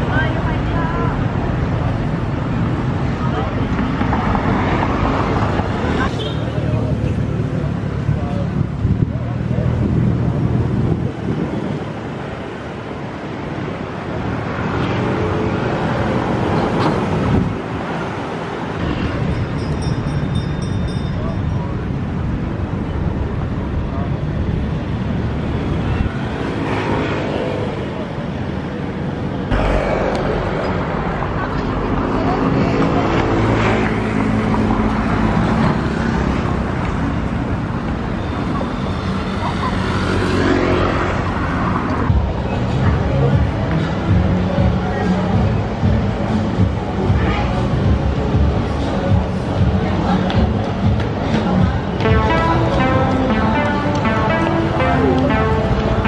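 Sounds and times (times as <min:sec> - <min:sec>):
road traffic noise: 0:00.0 - 0:56.0.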